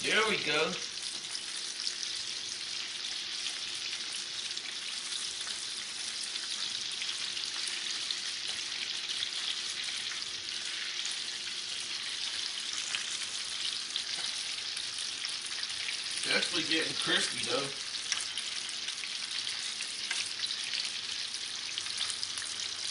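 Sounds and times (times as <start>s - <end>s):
chicken sizzling in hot oil: 0.0s - 22.9s.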